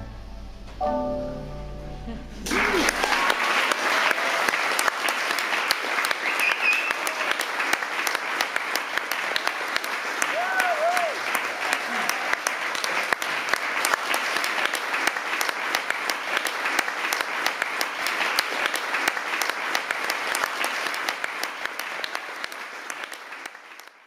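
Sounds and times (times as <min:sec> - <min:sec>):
audience applauding: 0:02.4 - 0:24.0.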